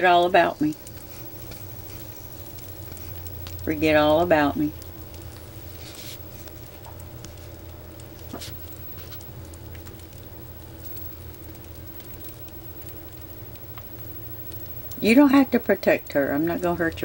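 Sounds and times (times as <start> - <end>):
rustling and light crackling: 0.0 - 17.0
steady low hum: 0.0 - 17.0
small ticks: 0.2 - 17.0.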